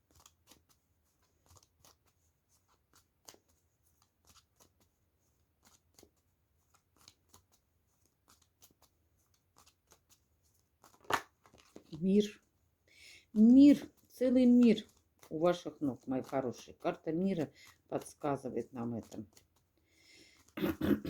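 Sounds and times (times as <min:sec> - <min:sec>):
cards being shuffled: 0:00.0 - 0:12.5, 0:13.3 - 0:20.8.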